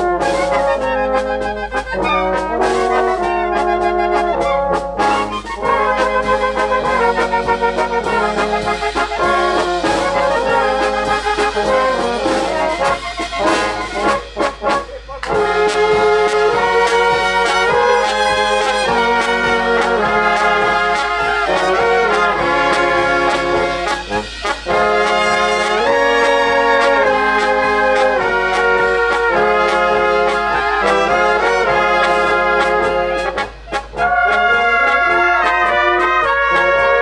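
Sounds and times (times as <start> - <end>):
brass band playing: 0.0 - 37.0
drum beat: 0.0 - 37.0.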